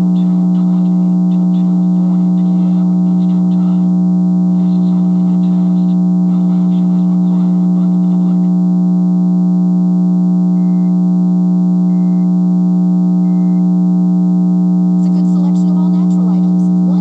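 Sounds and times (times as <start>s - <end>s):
loud electrical hum: 0.0s - 17.0s.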